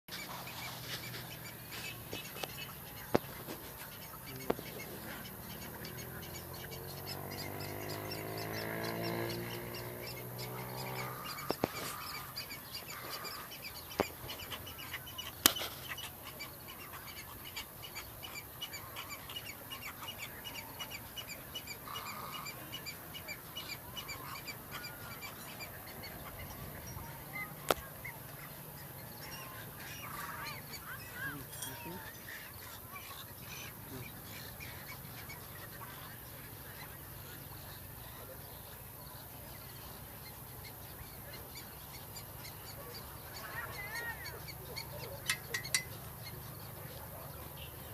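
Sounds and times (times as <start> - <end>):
birds calling in chorus: 0.1 - 47.9.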